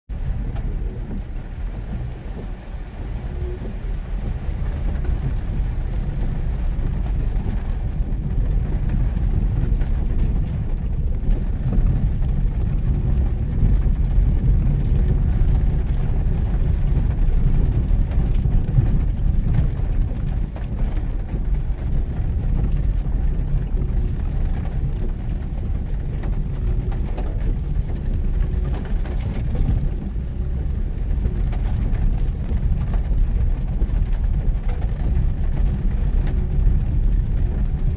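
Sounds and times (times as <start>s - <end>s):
car driving on wet road: 0.1s - 37.9s.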